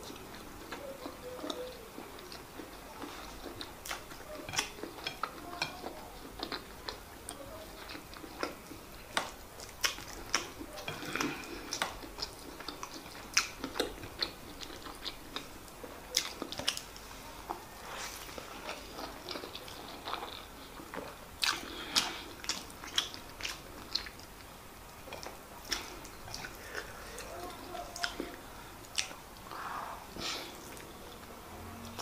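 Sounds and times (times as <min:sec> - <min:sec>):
chewing with wet mouth clicks: 0:00.0 - 0:17.6, 0:18.2 - 0:29.6.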